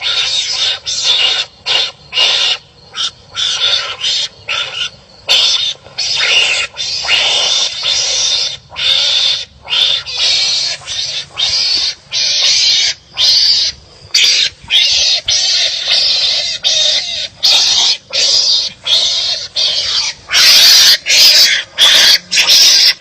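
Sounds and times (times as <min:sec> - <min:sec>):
animals fighting with rasping calls: 0:00.0 - 0:23.0.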